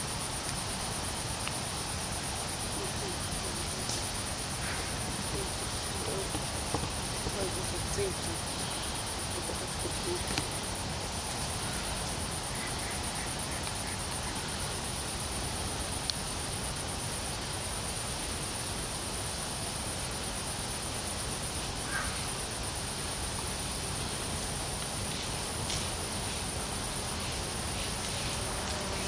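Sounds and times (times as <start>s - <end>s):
crickets chirring: 0.0s - 29.0s
low background hiss: 0.0s - 29.0s.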